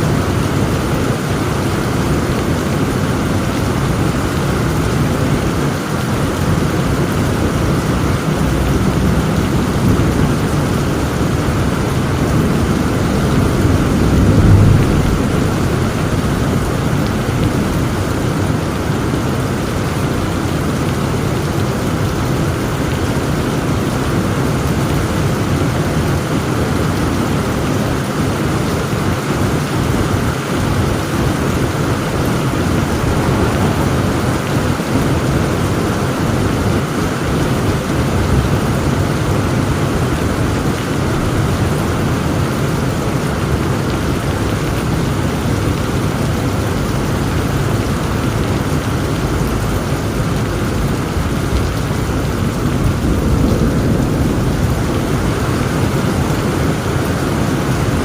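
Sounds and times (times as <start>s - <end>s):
heavy rain falling: 0.0s - 58.0s
thunder rolling: 0.1s - 22.5s, 29.8s - 58.0s.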